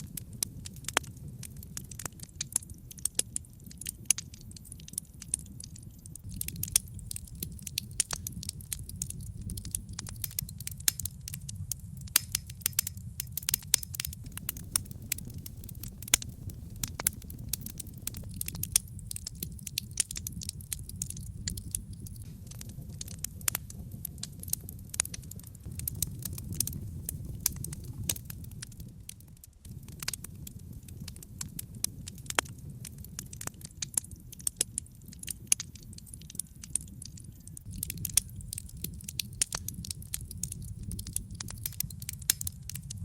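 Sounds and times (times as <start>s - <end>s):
logs crackling and popping: 0.0s - 43.0s
low rumble of flames: 0.0s - 43.0s.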